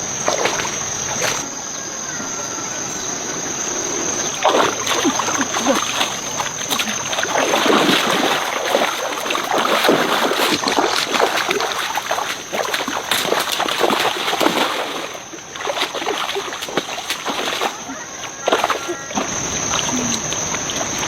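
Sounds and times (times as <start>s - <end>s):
water splashing and sloshing: 0.0s - 1.6s, 3.6s - 21.0s.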